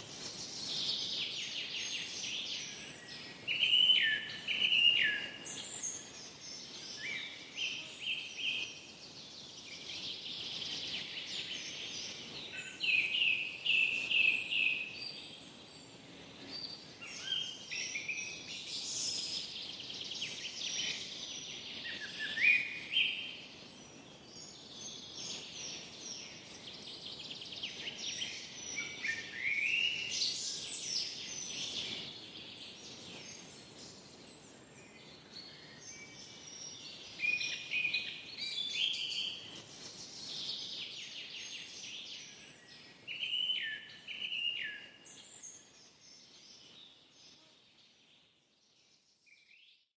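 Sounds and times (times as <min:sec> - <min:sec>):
faint forest air hiss: 0:00.0 - 0:49.8
songbirds singing and chirping: 0:00.0 - 0:49.9.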